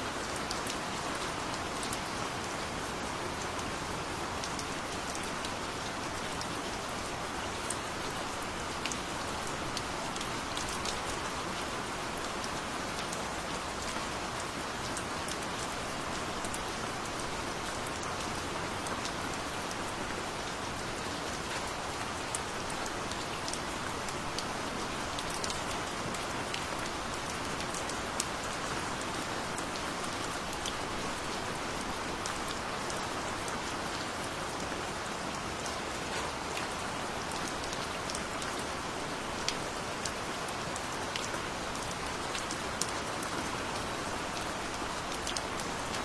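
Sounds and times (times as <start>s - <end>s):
gentle rain falling: 0.0s - 46.0s.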